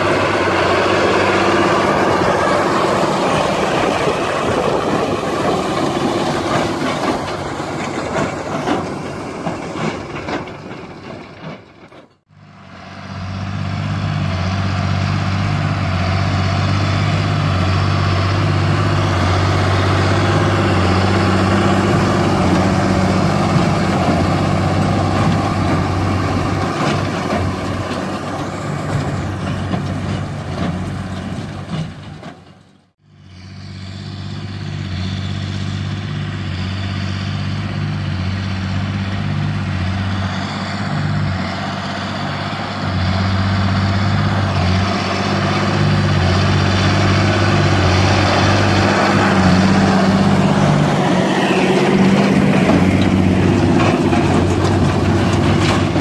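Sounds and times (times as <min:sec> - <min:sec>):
baler machinery working: 0:00.0 - 0:12.2, 0:13.7 - 0:32.7, 0:38.6 - 0:56.0
diesel tractor engine under load: 0:00.0 - 0:56.0.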